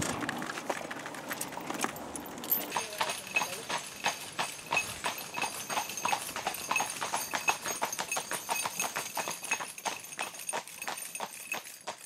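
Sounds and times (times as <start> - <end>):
horses' hooves clip-clopping: 0.0 - 12.0.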